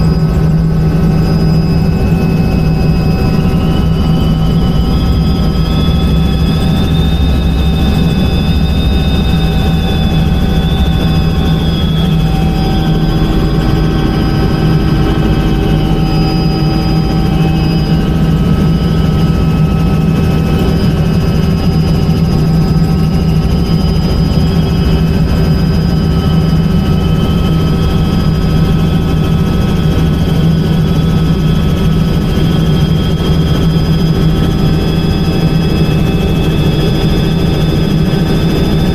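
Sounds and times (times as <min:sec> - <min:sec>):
helicopter turbine and rotor: 0:00.0 - 0:38.9.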